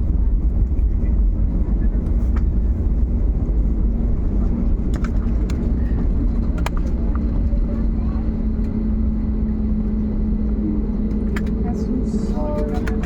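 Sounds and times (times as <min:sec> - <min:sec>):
airplane cabin engine hum: 0:00.0 - 0:13.0.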